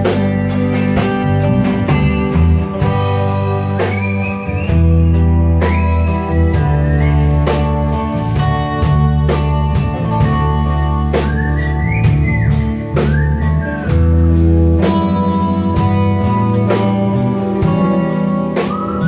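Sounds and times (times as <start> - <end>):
bass guitar: 0.0 - 19.0
drum kit with cymbals: 0.0 - 19.0
electric guitars: 0.0 - 19.0
sliding lead guitar line: 0.0 - 19.0.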